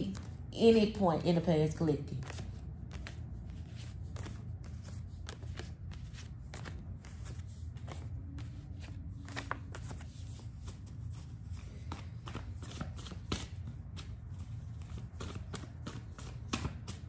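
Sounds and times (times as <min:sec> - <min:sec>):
cards being shuffled: 0:02.1 - 0:17.0.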